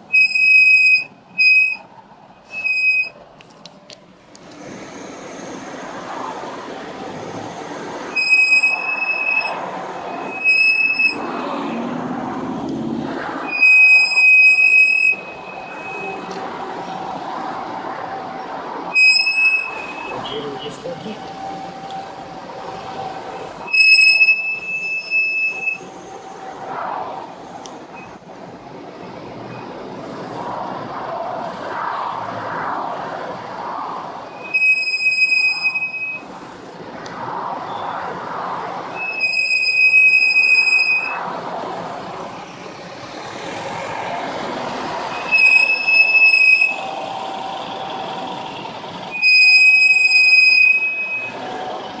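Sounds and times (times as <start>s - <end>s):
brake pads squealing: 0.0s - 5.7s, 6.5s - 26.8s, 34.2s - 52.0s
road and tyre noise: 0.0s - 52.0s.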